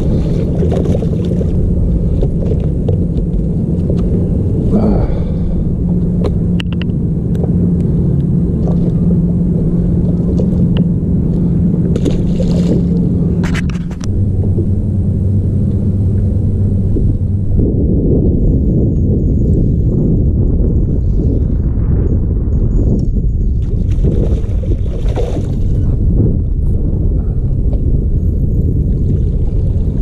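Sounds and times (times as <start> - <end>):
boat motor hum: 0.0 - 30.0
low rumble: 0.0 - 30.0.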